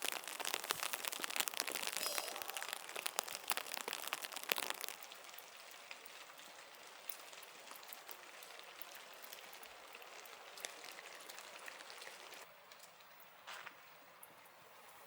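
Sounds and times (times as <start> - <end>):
rain falling: 0.0 - 14.6.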